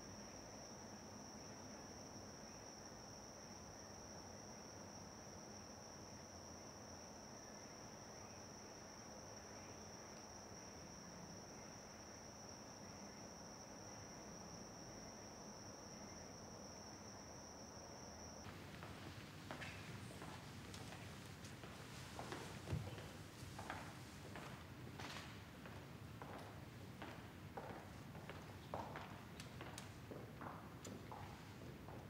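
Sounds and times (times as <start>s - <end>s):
crickets trilling: 0.0s - 32.0s
faint background hiss: 0.0s - 32.0s.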